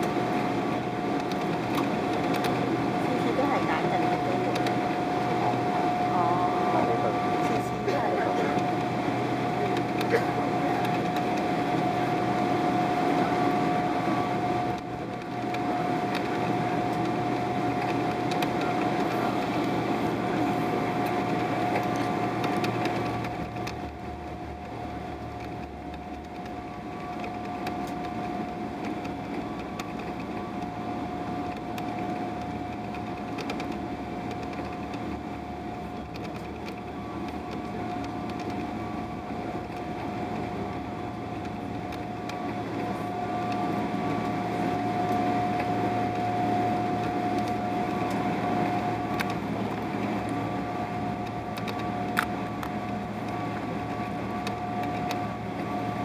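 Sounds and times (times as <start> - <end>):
airliner engines rushing: 0.0 - 56.0
cabin air conditioning: 0.0 - 56.0
mid-pitched whine: 0.0 - 56.0.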